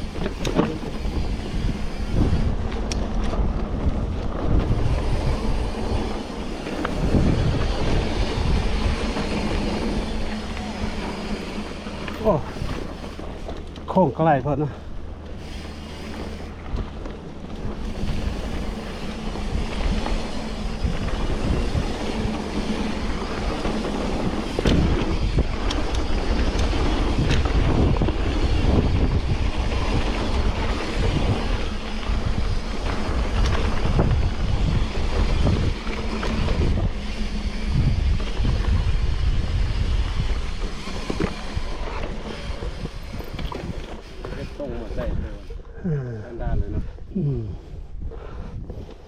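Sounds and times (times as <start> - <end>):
bike rattling on rough trail: 0.0 - 49.0
wind buffeting microphone: 0.0 - 49.0.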